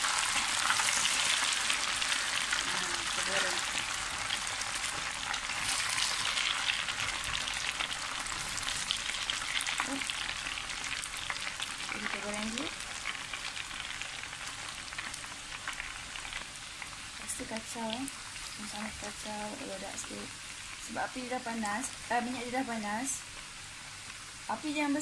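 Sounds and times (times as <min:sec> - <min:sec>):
crackling sizzle of deep-frying: 0:00.0 - 0:25.0.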